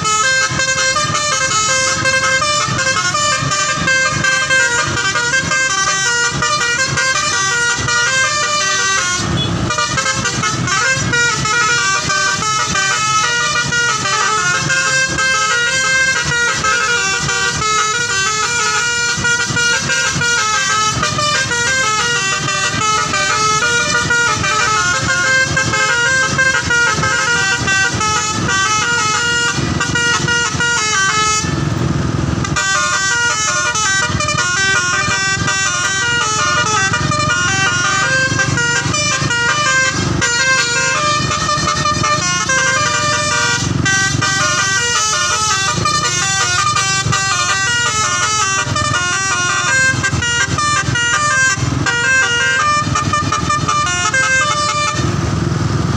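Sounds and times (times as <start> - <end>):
multi-tone bus horn melody: 0.0 - 55.9.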